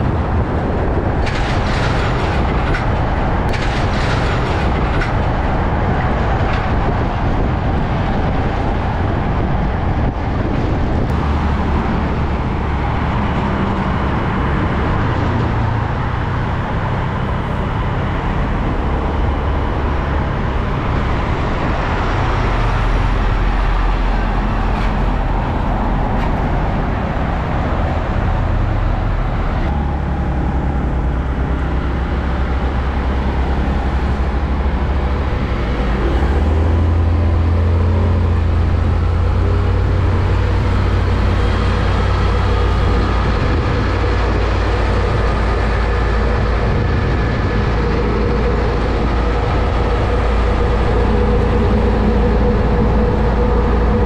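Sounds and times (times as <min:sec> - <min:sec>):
diesel truck engines running: 0:00.0 - 0:54.0
tyre noise of passing vehicles: 0:00.0 - 0:54.0.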